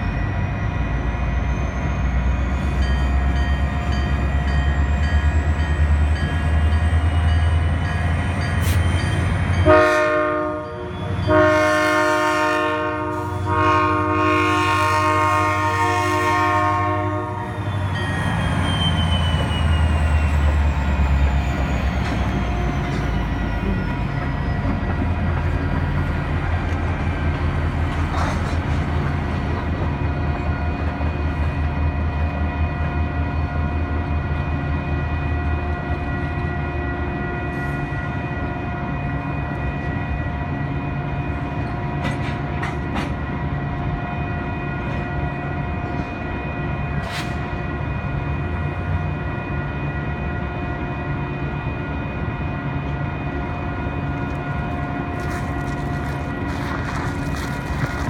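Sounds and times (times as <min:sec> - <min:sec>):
locomotive engine rumble: 0:00.0 - 0:49.6, 0:51.4 - 0:58.0
train cars rolling on rails: 0:00.0 - 0:58.0.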